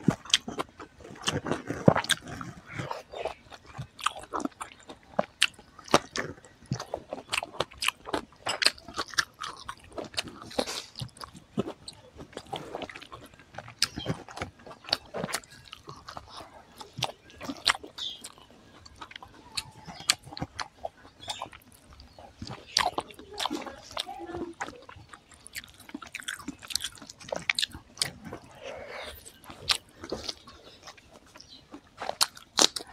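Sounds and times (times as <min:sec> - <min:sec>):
chewing crunchy greens: 0:00.0 - 0:32.9.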